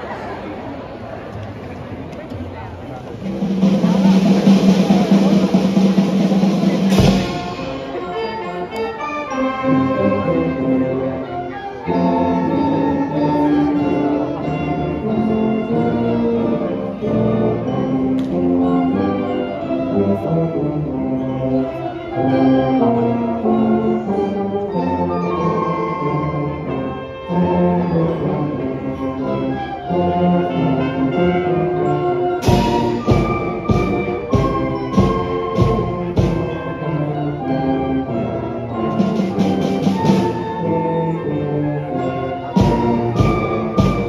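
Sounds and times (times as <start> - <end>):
brass band music: 3.0 - 44.0.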